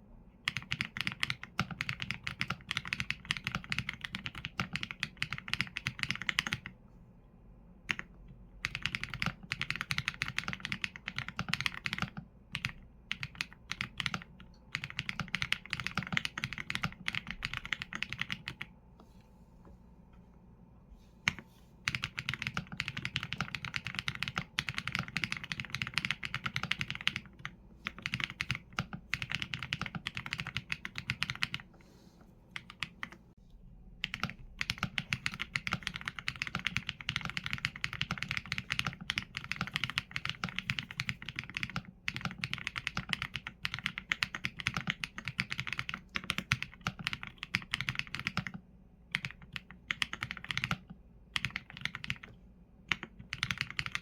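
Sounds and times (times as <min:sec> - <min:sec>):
fast typing on mechanical keyboard: 0:00.4 - 0:06.8, 0:07.9 - 0:18.7, 0:21.3 - 0:31.7, 0:32.6 - 0:33.2, 0:34.0 - 0:54.0.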